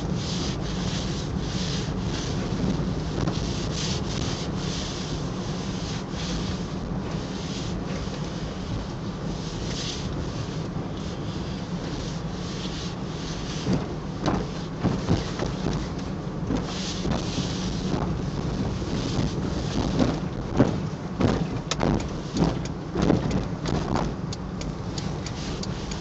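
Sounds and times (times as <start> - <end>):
car driving drone: 0.0 - 26.0.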